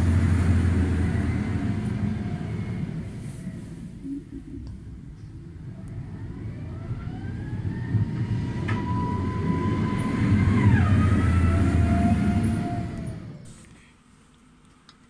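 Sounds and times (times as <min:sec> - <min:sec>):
diesel engine rumble: 0:00.0 - 0:13.5
machine whine: 0:00.0 - 0:13.7.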